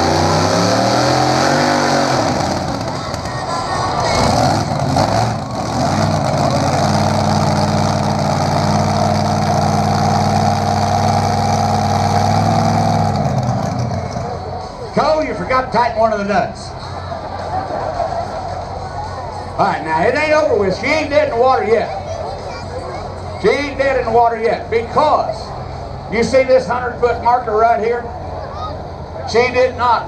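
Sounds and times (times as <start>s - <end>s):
pulling vehicle engine under full load: 0.0s - 29.3s.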